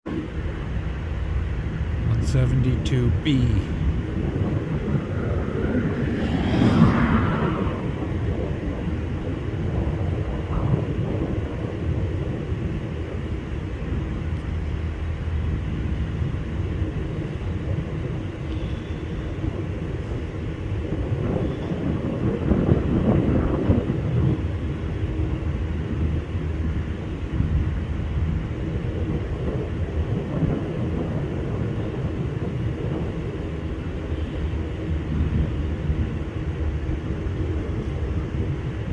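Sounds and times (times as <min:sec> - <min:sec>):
propeller plane engine drone: 0:00.1 - 0:38.9.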